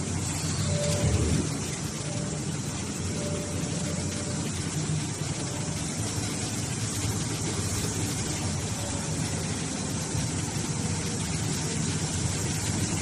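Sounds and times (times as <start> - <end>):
hydraulic baler humming: 0.0 - 13.0
machine hiss: 0.0 - 13.0.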